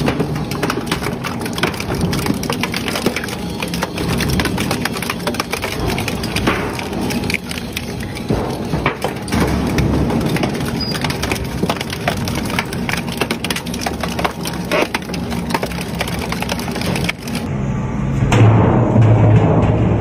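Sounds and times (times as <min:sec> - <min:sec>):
shredder grinding and crunching: 0:00.0 - 0:17.5.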